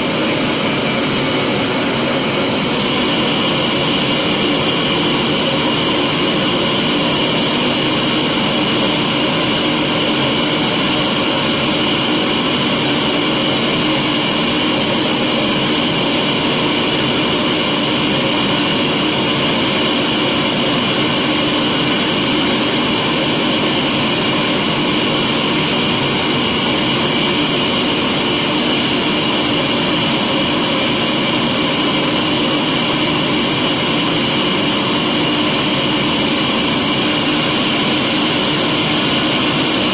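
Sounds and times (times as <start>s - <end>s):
vacuum cleaner motor humming: 0.0s - 39.9s.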